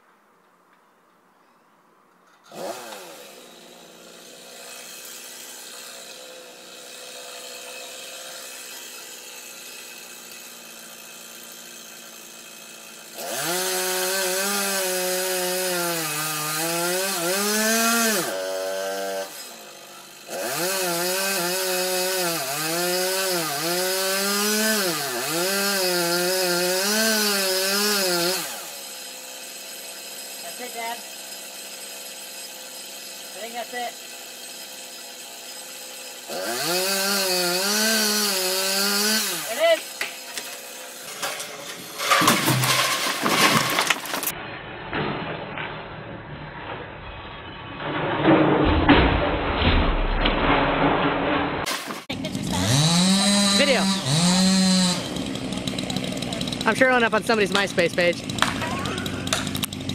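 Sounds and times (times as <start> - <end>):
chainsaw idling: 2.5 - 44.3, 51.7 - 59.9
chainsaw cutting tree trunk: 2.5 - 44.4, 51.6 - 59.9.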